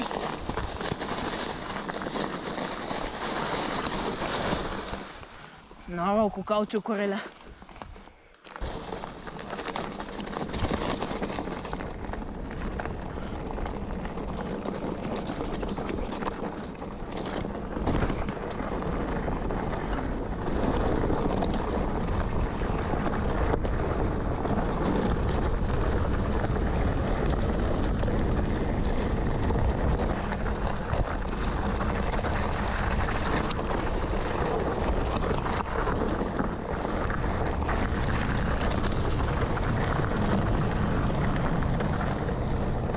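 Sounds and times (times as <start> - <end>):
bike knocking and rattling: 0.0 - 5.5, 7.4 - 42.9
tyres rolling over stones: 0.0 - 42.9.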